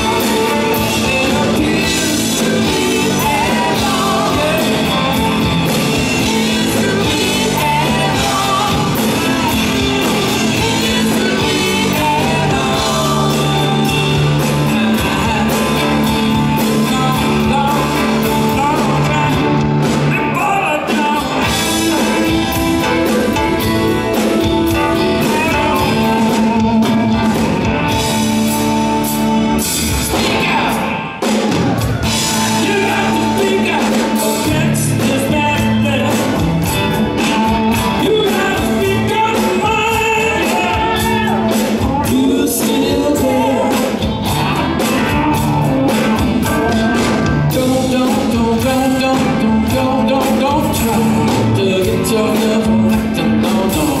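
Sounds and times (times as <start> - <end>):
man singing: 0.0 - 28.8, 30.0 - 54.0
bass guitar: 0.0 - 54.0
electric guitar: 0.0 - 54.0.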